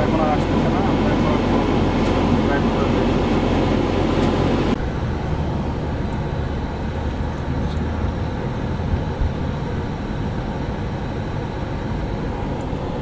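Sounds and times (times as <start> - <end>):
road and traffic rumble: 0.0 - 13.0.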